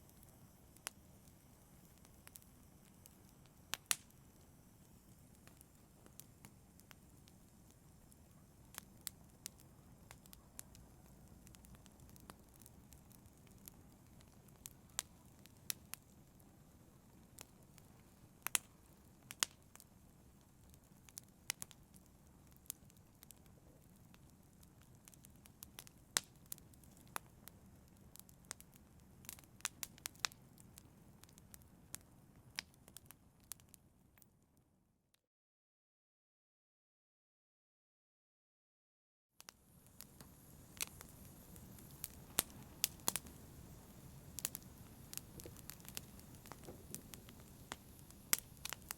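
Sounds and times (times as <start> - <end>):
fireplace fire crackling: 0.0 - 34.3, 39.4 - 48.9.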